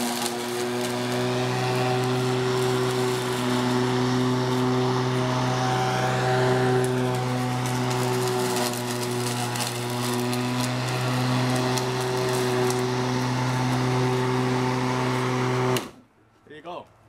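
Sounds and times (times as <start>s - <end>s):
electric lawn mower running: 0.0s - 16.0s.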